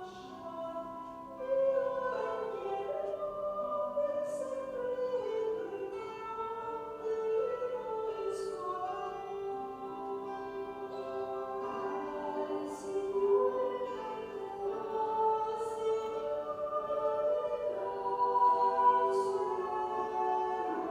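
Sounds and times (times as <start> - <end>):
slow choral singing: 0.0 - 20.9.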